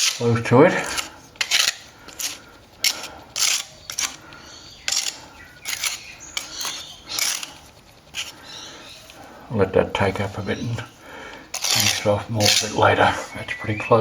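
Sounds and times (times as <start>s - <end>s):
hand tool scraping plaster: 0.0s - 9.2s, 10.0s - 13.2s.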